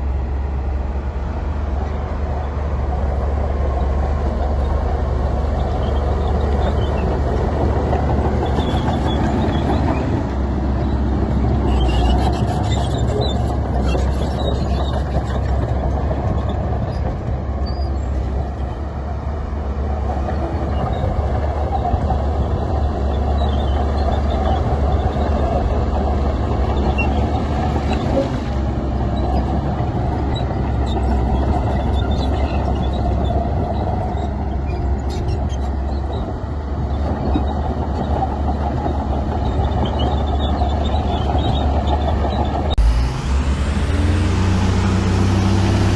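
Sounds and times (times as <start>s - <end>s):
heavy diesel machinery droning: 0.0s - 45.9s.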